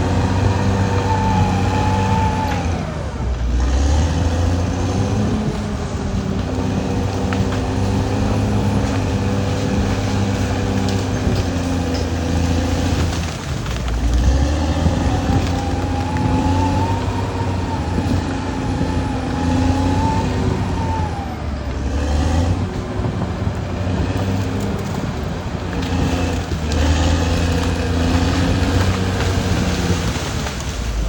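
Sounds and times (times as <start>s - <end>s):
bulldozer diesel rumble: 0.0s - 31.0s.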